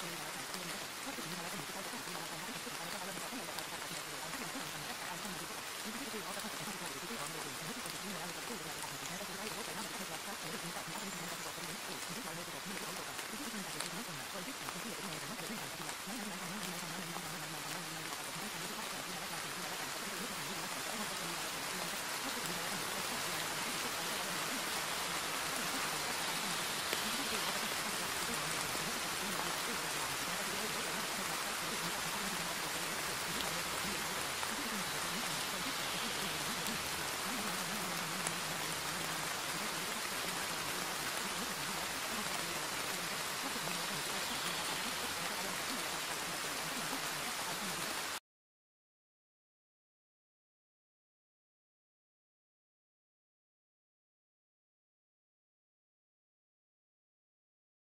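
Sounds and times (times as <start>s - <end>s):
faint voice: 0.0s - 48.2s
steady rain: 0.0s - 48.2s.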